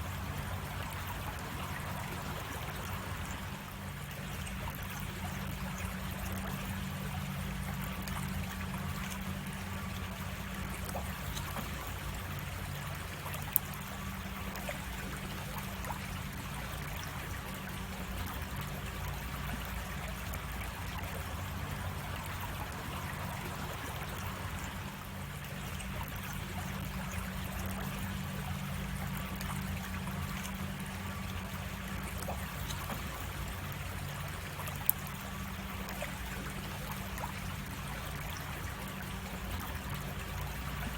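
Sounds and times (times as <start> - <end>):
creek water flowing over rocks: 0.0 - 40.9.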